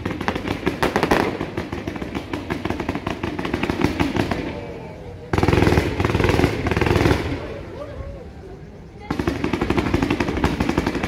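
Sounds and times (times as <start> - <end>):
firecrackers banging and crackling: 0.0 - 7.9, 8.9 - 11.0.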